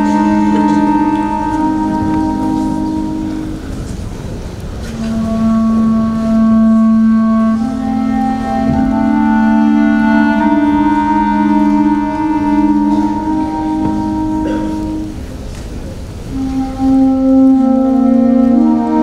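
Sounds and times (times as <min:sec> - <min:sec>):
concert band playing slow elegy: 0:00.0 - 0:19.0.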